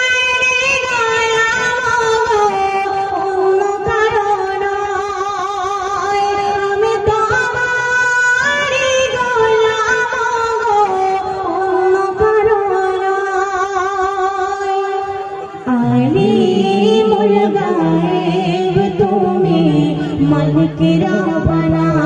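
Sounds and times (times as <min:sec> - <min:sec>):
woman singing into microphone: 0:00.0 - 0:22.0.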